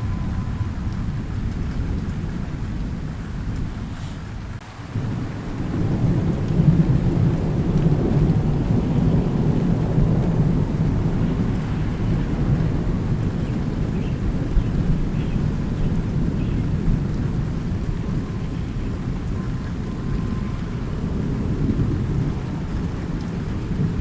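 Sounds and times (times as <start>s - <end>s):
steady rain: 0.0s - 24.0s
thunder rumbling: 0.0s - 24.0s.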